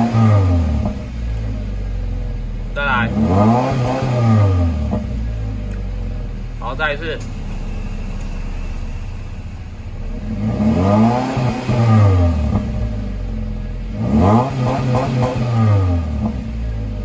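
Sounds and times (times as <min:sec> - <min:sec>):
car engine revving from idle: 0:00.0 - 0:17.0.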